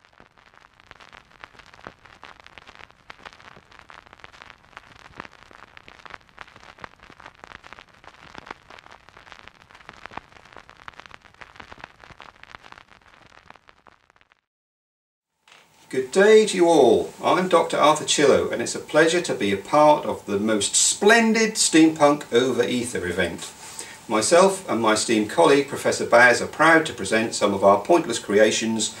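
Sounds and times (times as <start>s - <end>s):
dense crackling pops: 0.0s - 14.5s, 15.4s - 29.0s.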